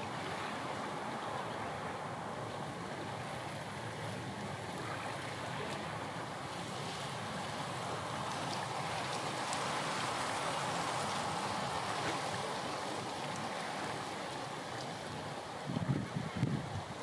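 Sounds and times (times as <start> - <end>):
small waves rushing: 0.0 - 17.0.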